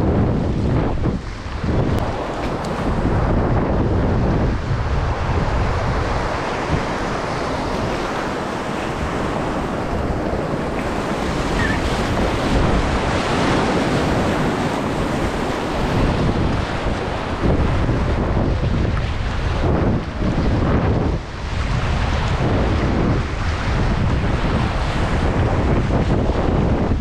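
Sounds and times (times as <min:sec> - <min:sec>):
wind buffeting microphone: 0:00.0 - 0:27.0
whitewater rushing: 0:00.7 - 0:26.7.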